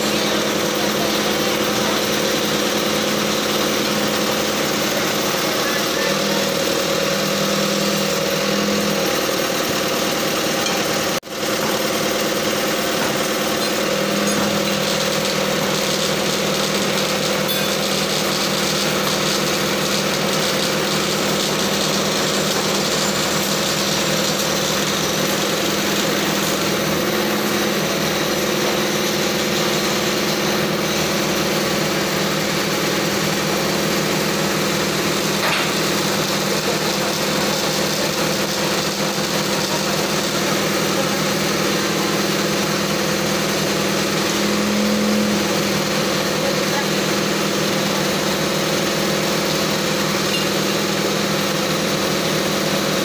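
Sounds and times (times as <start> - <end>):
truck engine running: 0.0 - 53.0.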